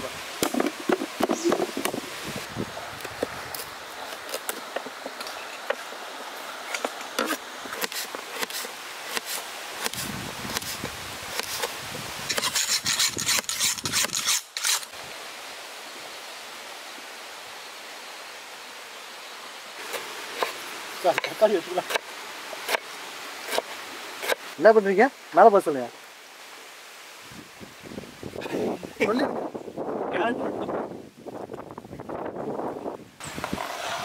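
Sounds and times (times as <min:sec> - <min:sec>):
background hiss: 0:00.0 - 0:34.0.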